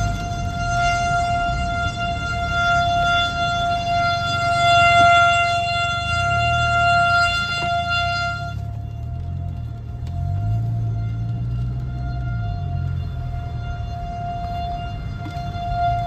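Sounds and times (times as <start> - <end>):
rotating warning siren: 0.0 - 16.0.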